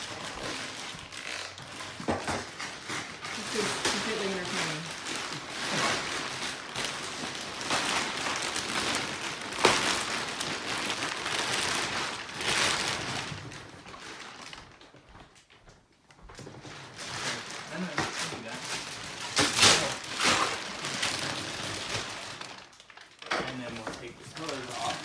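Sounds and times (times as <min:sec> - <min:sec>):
plastic wrapping crinkling: 0:00.0 - 0:25.0.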